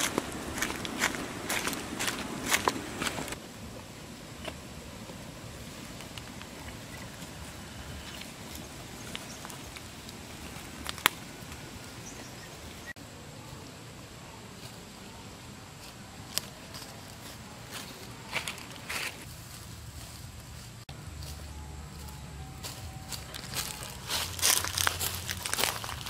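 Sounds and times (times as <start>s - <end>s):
bare feet walking on dry leaves: 0.0s - 3.4s, 4.4s - 12.2s, 15.7s - 26.0s
outdoor background: 0.0s - 26.0s.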